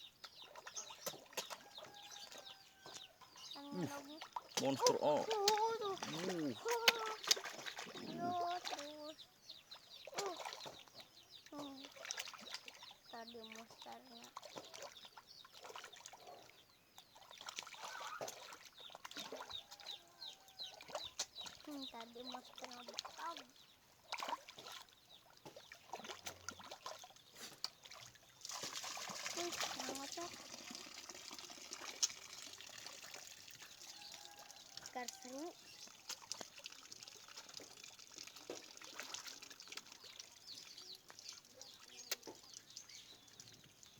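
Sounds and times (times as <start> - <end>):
small birds chirping: 0.0 - 43.9
water trickling and splashing: 0.0 - 43.9.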